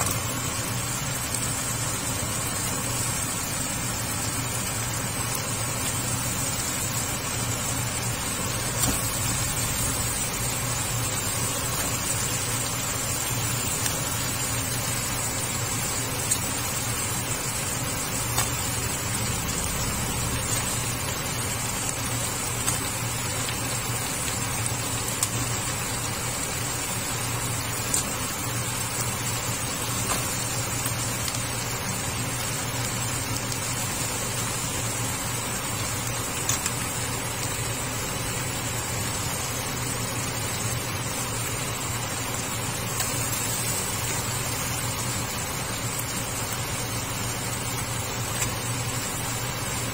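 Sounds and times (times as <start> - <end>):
crabs sizzling in a pan: 0.0 - 49.9
steady low hum: 0.0 - 49.9.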